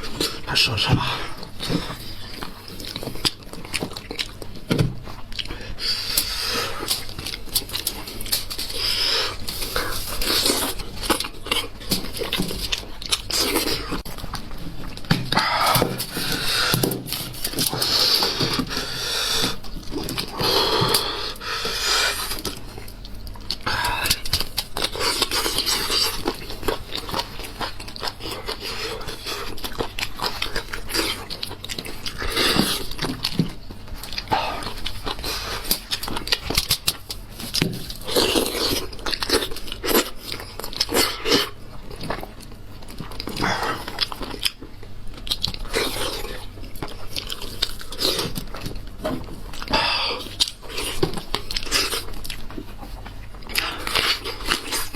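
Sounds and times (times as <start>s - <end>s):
chewing and biting with crunches: 0.0s - 54.9s.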